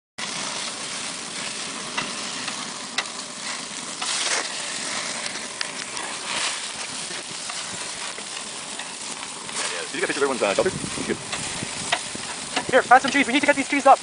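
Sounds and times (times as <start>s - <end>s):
grease popping: 0.2s - 14.0s
meat sizzling on a grill: 0.2s - 14.0s.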